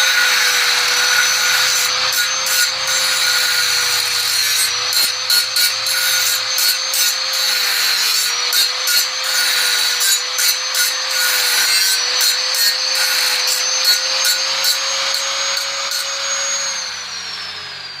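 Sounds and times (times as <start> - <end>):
tool rasping against metal: 0.0 - 16.8
power tool motor whining: 0.0 - 18.0.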